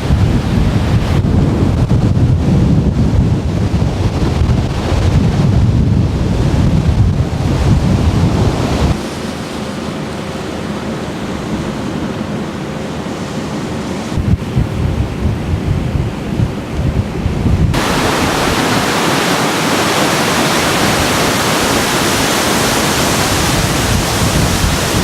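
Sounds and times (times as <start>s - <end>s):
storm rushing roar: 0.0s - 25.0s
wind buffeting microphone: 0.0s - 25.0s.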